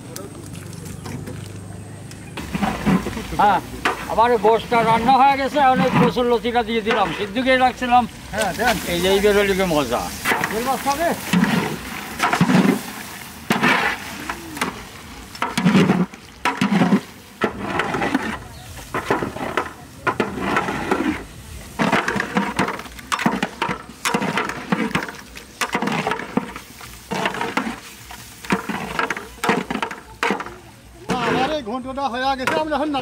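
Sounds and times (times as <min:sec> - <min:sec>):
spatula scraping a saucepan: 0:02.4 - 0:07.8, 0:08.6 - 0:31.6
food sizzling: 0:02.4 - 0:33.0.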